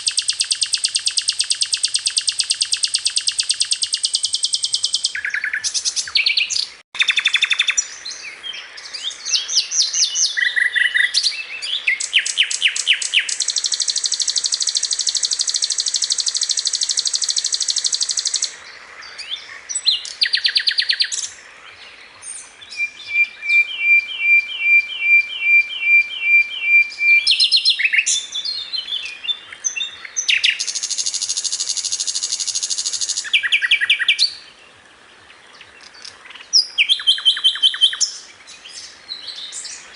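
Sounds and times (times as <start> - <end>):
flycatcher singing trills and chirps: 0.0 - 21.4, 22.1 - 34.5, 35.6 - 39.9.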